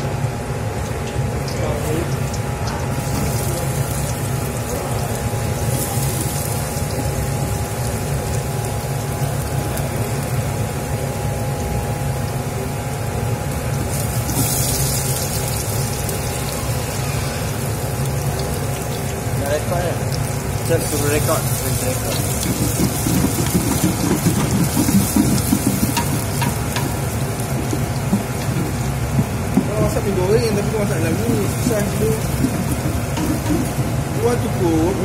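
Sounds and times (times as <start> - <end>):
garlic and onion sizzling in oil: 0.6 - 35.0.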